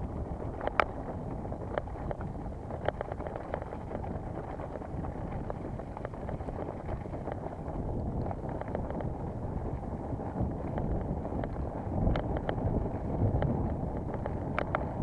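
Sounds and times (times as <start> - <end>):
bike clicks and rattles: 0.0 - 15.0
wind and tyre rumble: 0.0 - 15.0.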